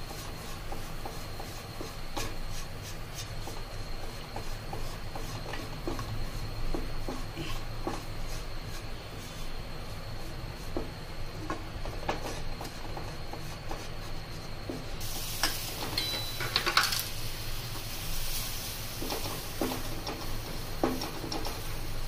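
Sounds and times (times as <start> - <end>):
faint high whine: 0.0 - 22.0
steady low hum: 0.0 - 22.0.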